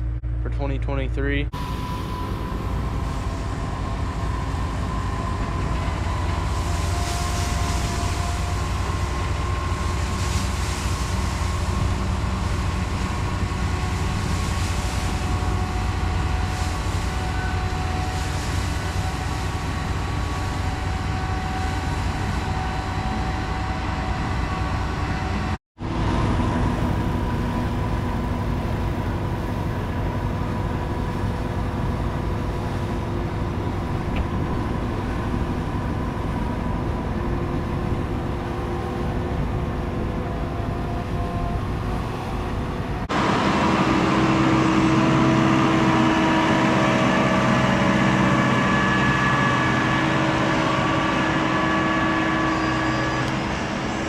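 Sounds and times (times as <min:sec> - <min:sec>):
harvesting machinery engine drone: 0:00.0 - 0:54.0
machinery whines: 0:01.5 - 0:54.0.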